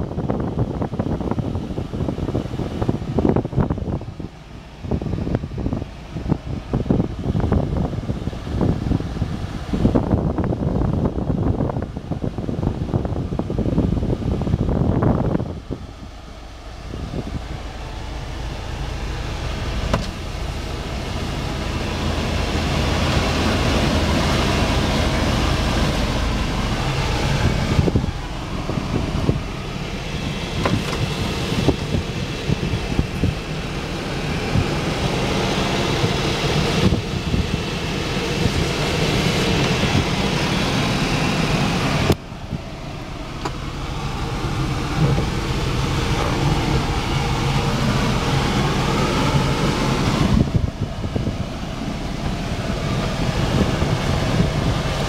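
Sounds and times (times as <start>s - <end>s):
road noise: 0.0s - 55.0s
small truck engine from inside cab: 0.0s - 55.0s.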